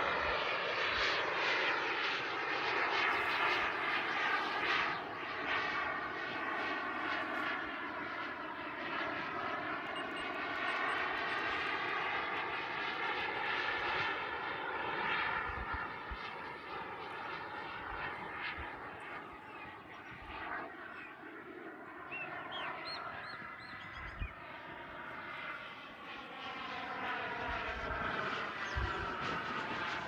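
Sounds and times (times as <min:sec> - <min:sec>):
model jet turbine engine: 0:00.0 - 0:30.0.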